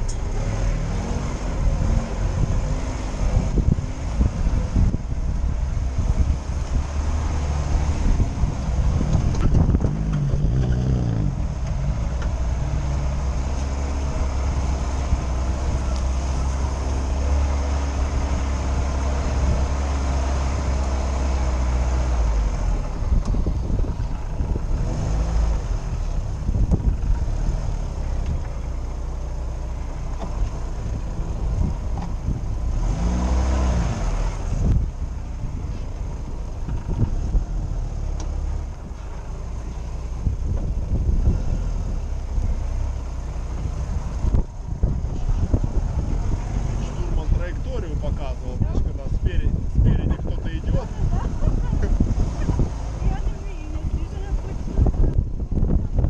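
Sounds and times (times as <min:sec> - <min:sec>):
car engine revving off-road: 0:00.0 - 0:56.0.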